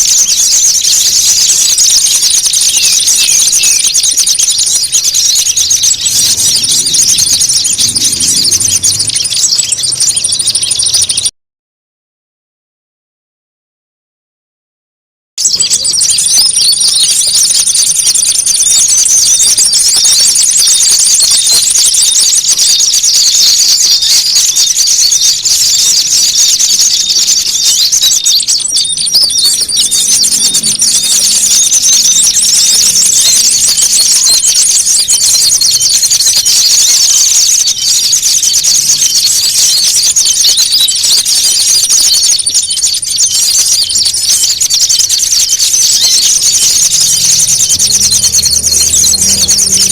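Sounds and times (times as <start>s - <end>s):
small birds chattering and trilling: 0.0s - 11.3s, 15.4s - 49.9s.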